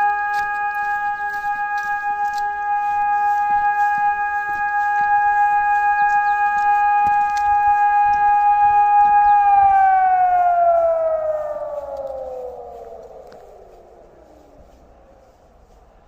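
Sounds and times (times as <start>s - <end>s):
motor siren winding down: 0.0s - 15.4s.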